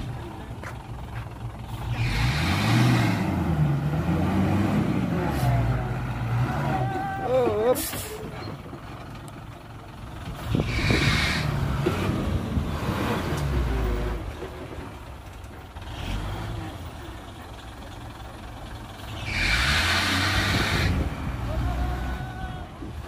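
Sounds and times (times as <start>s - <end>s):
diesel engine low rumble: 0.0s - 23.0s.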